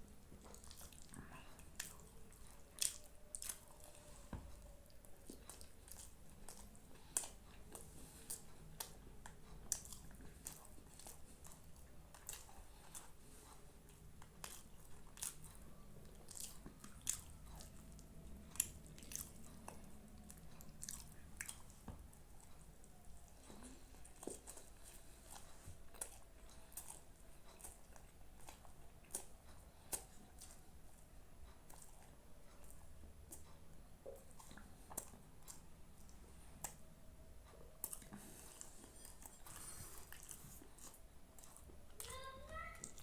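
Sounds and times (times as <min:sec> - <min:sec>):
chewing and biting food: 0:00.0 - 0:42.2.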